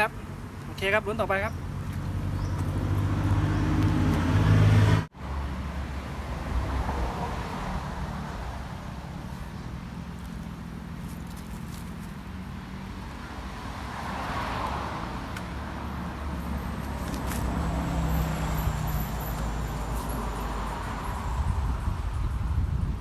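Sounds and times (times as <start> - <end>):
low steady traffic rumble: 0.0 - 23.0
vehicles passing by: 0.0 - 23.0.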